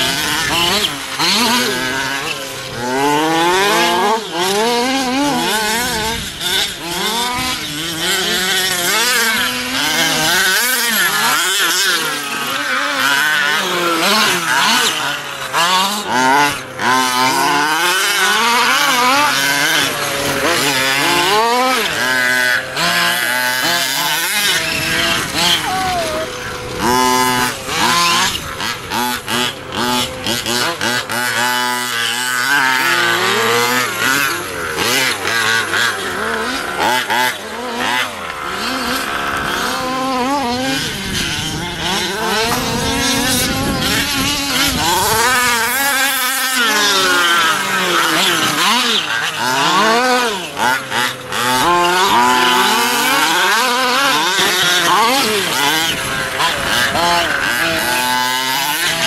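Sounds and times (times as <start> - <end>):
rc car engines revving: 0.0 - 59.0.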